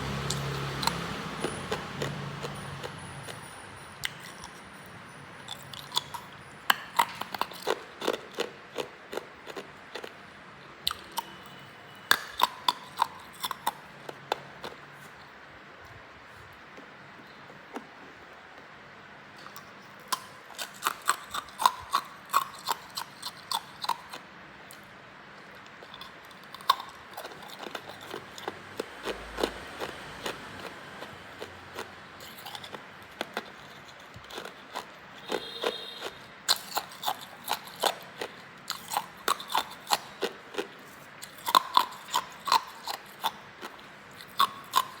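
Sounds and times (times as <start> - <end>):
ice being chewed: 0.0 - 15.3, 19.4 - 24.8, 25.4 - 45.0.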